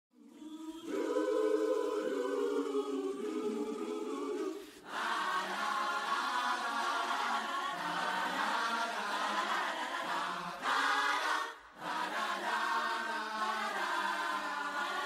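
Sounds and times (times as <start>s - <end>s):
choir singing held chords: 0.1s - 15.0s.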